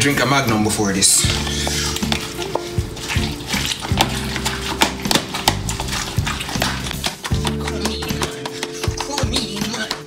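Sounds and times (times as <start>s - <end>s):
background music with bass: 0.0s - 10.0s
hands squelching raw chicken: 1.1s - 10.0s.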